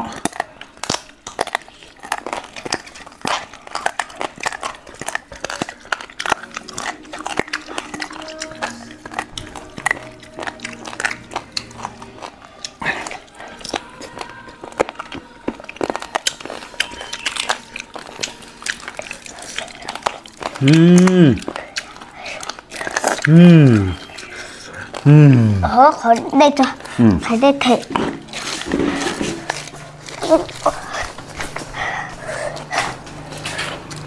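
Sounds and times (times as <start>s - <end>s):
chewing and biting: 0.0s - 34.0s.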